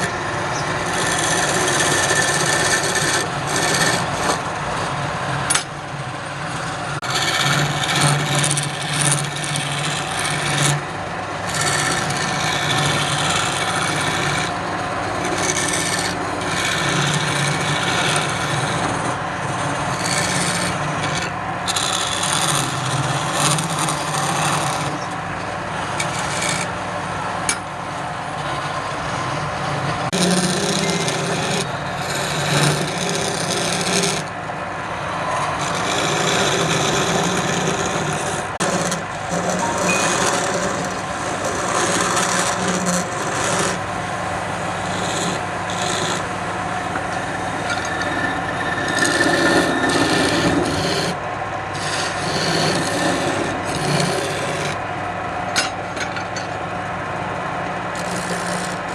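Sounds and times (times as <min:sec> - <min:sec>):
tool scraping spinning wood: 0:00.0 - 0:54.9, 0:55.5 - 0:58.9
lathe motor hum: 0:00.0 - 0:58.9.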